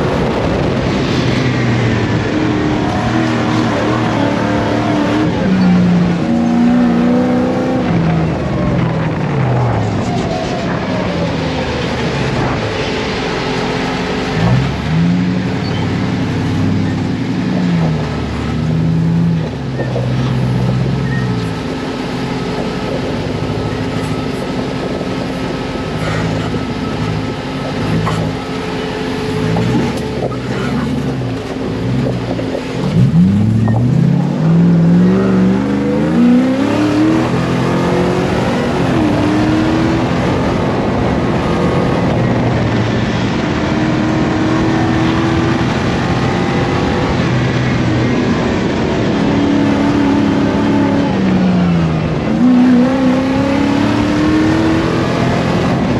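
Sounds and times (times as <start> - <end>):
buggy engine accelerating: 0.0 - 55.9
steady rushing noise: 0.0 - 55.9.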